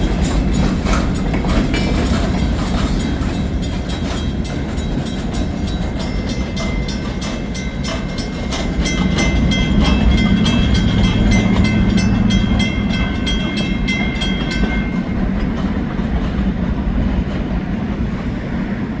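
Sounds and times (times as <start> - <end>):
wheels clacking over rails: 0.0 - 18.3
freight train rumble: 0.0 - 19.0.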